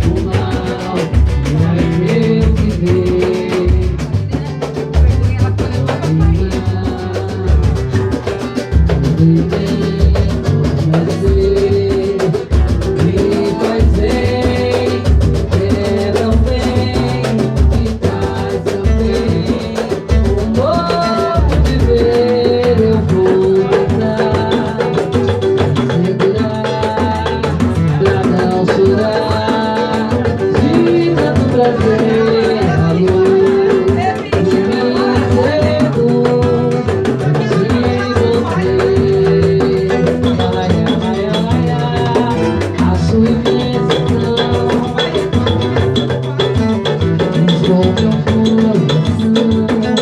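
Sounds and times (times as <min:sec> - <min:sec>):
deep drum beats: 0:00.0 - 0:50.0
latin music melody: 0:00.0 - 0:50.0.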